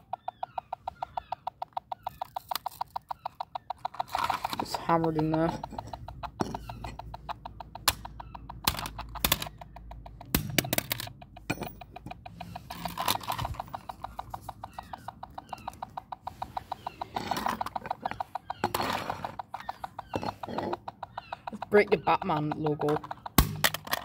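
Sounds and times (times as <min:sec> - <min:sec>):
fast even clicks: 0:00.0 - 0:24.0
hammer striking plastic toy: 0:00.0 - 0:24.0.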